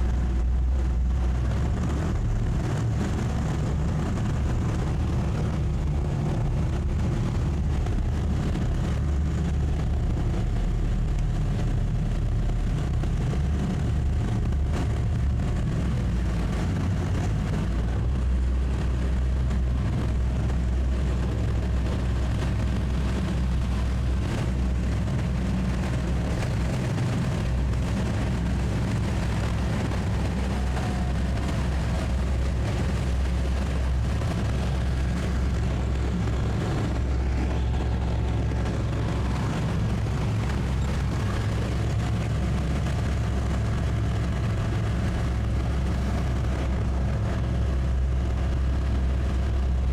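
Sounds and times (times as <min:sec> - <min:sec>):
outboard motors running: 0:00.0 - 0:49.9.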